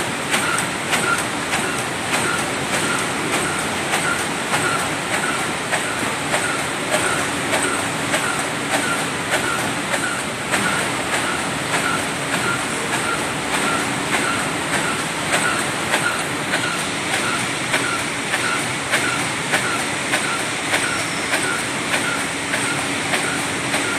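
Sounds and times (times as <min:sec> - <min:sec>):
sharp machine clack: 0:00.0 - 0:23.9
box machine clattering: 0:00.2 - 0:23.9.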